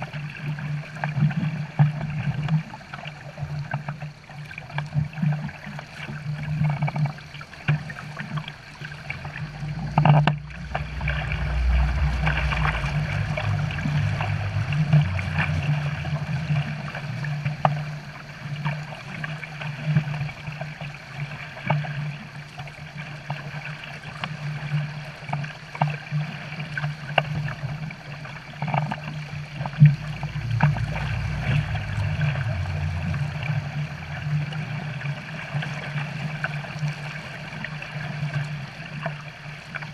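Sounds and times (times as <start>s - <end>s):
water churning and splashing: 0.0s - 39.9s
boat engine drone: 6.6s - 39.8s.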